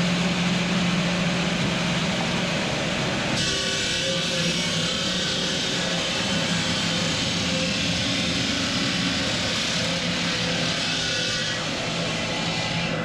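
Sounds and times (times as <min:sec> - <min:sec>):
stone-cutting machinery running: 0:00.0 - 0:13.0.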